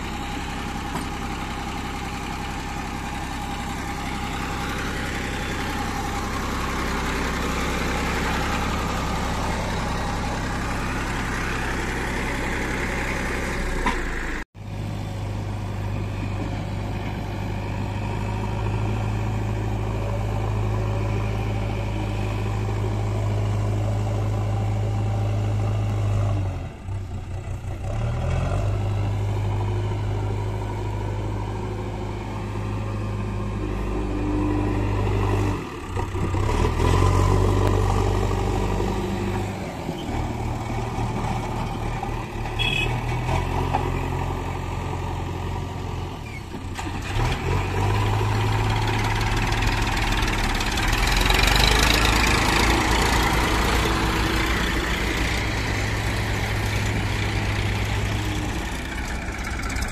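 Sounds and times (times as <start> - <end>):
backhoe loader diesel engine: 0.0 - 59.9
tractor engine running: 0.0 - 59.9.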